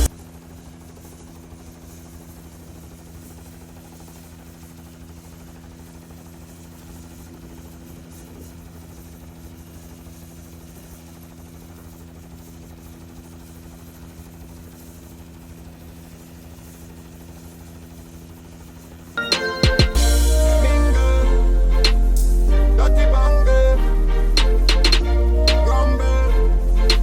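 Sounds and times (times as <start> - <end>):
helicopter motor and rotor: 0.0 - 27.0.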